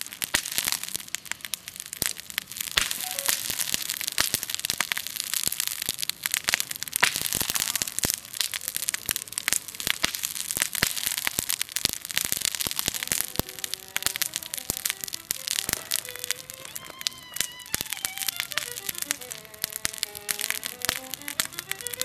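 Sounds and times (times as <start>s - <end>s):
campfire crackling and popping: 0.0s - 22.0s
fire hiss: 0.0s - 22.0s.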